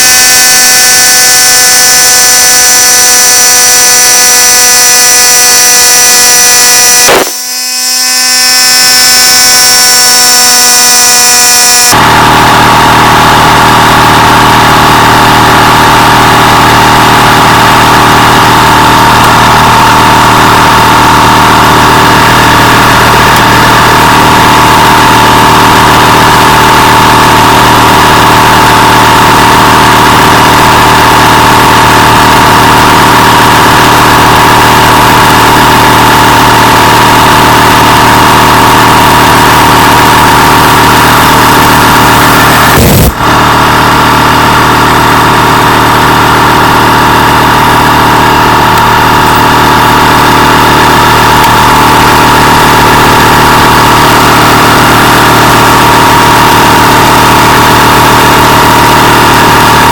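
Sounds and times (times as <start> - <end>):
air compressor motor whining: 0.0 - 59.9.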